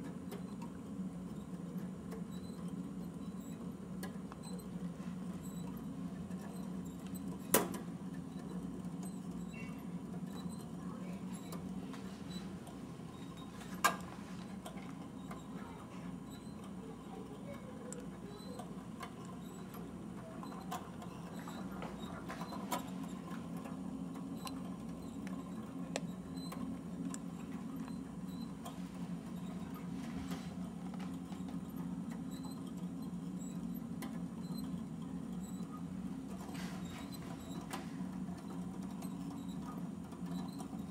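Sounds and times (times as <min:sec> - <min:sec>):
steady low hum: 0:00.0 - 0:40.9
clock mechanism rattling: 0:05.4 - 0:40.9.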